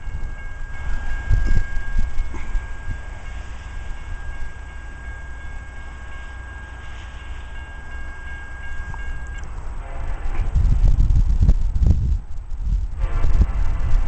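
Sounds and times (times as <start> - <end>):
distant train horn: 0.0 - 10.8, 12.9 - 14.0
low train rumble: 0.0 - 14.0.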